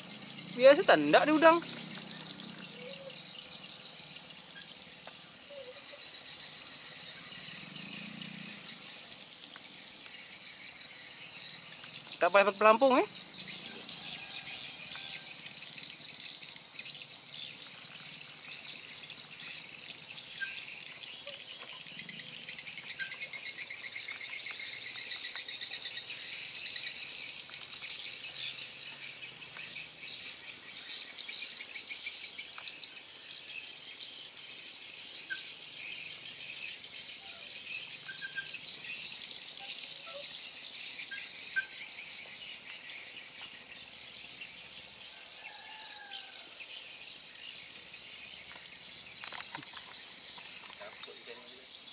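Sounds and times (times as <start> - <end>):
faint bird chirps: 0.0 - 51.9
insects chirring: 0.0 - 51.9.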